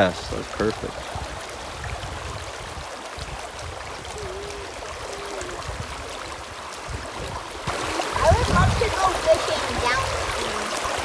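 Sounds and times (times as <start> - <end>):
river water over gravel: 0.0 - 11.0.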